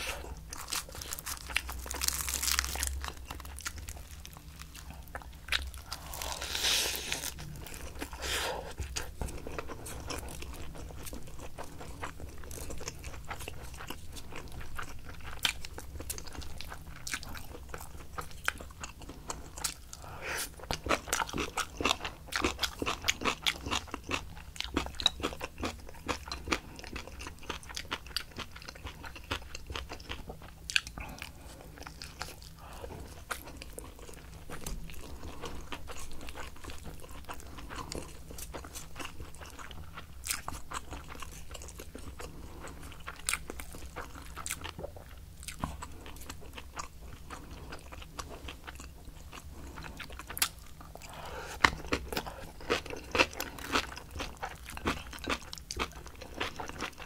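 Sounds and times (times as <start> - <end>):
chewing crunchy food: 0.0 - 57.0.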